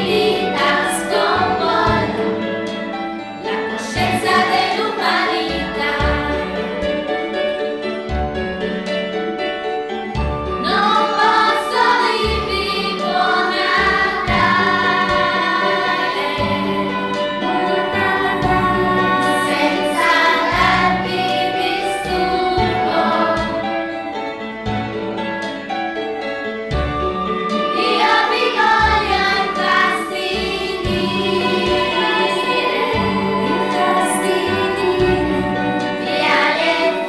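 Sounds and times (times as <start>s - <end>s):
choir singing: 0.0s - 8.0s, 10.0s - 24.8s, 27.2s - 37.0s
instrumental accompaniment: 0.0s - 37.0s.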